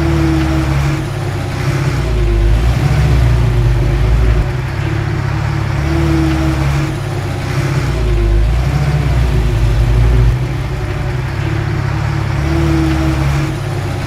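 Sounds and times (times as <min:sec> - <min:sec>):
diesel machinery engine running: 0:00.0 - 0:14.0.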